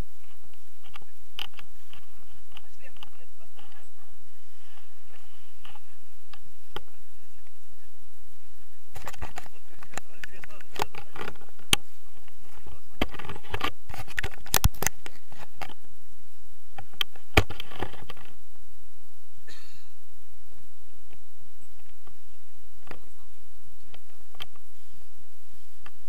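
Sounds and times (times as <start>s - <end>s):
rustling against camera housing: 0.2s - 7.7s, 8.8s - 15.9s, 16.7s - 18.5s, 21.0s - 26.0s.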